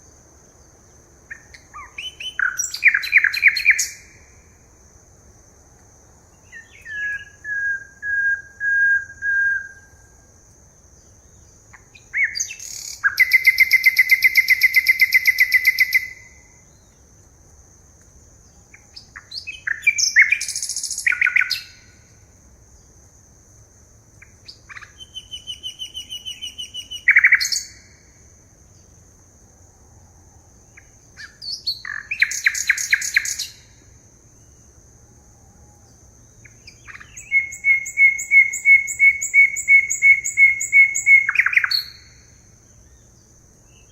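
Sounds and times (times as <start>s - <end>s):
forest birds singing: 0.0s - 43.9s.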